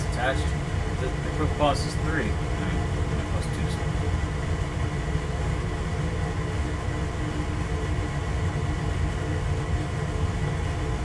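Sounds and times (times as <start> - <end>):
constant hum: 0.0 - 11.0
water heater rumble: 0.0 - 11.0.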